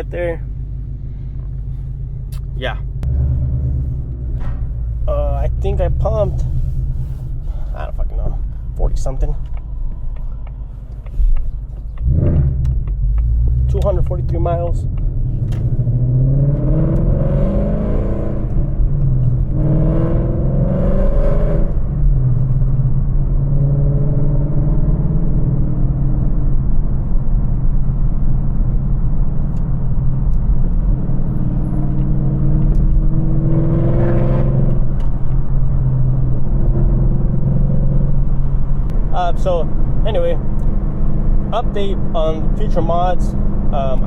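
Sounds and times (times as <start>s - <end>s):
car engine droning and revving: 0.0s - 44.0s.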